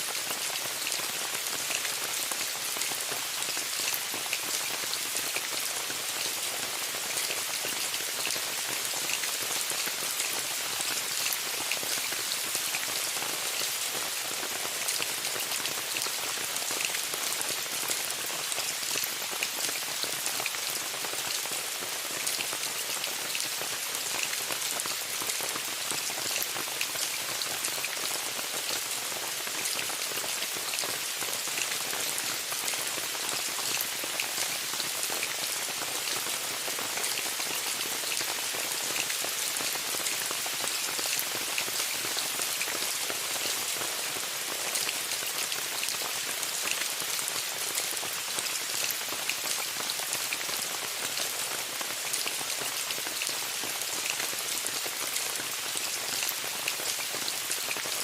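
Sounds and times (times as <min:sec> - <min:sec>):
rain on tent fabric: 0:00.0 - 0:58.0.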